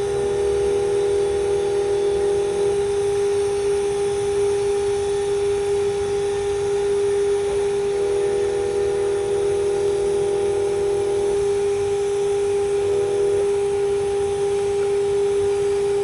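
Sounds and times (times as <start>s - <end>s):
tig welding hum: 0.0s - 16.0s.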